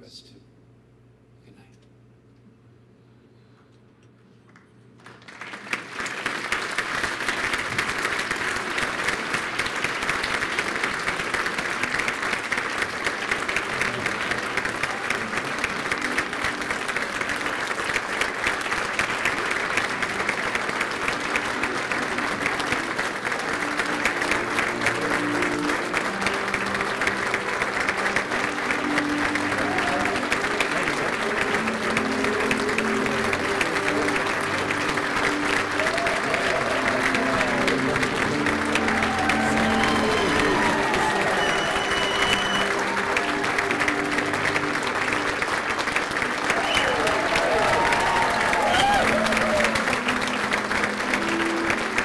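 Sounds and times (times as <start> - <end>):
audience applauding: 4.4 - 52.0
faint music: 6.4 - 52.0.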